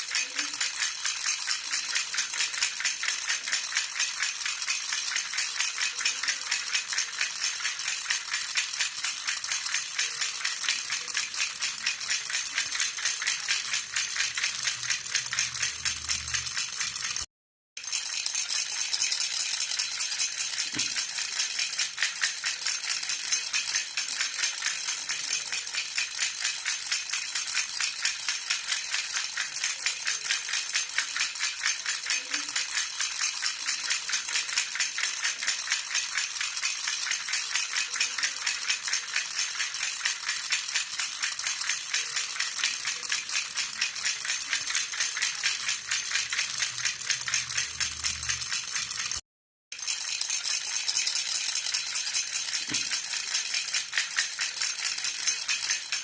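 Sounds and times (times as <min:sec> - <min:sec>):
baby rattle shaken rapidly: 0:00.0 - 0:49.2, 0:49.8 - 0:56.0.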